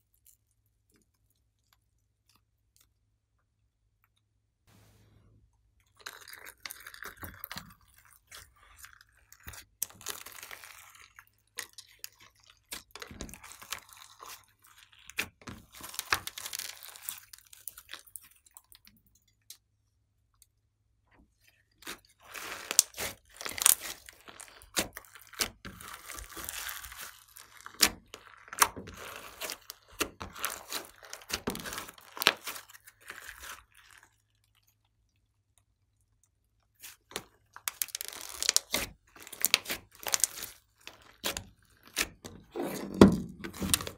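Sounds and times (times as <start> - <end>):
slime squishing with wet clicks: 0.0 - 4.4, 5.8 - 42.5.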